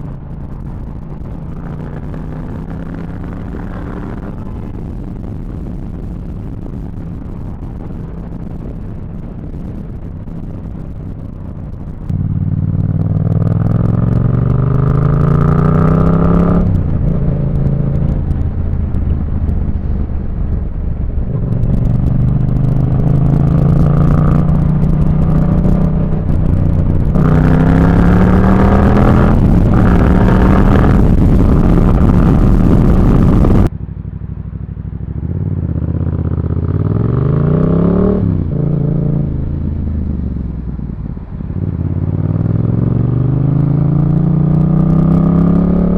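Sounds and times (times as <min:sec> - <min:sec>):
motorcycle engine revving through gears: 0:00.0 - 0:33.7, 0:34.7 - 0:45.9.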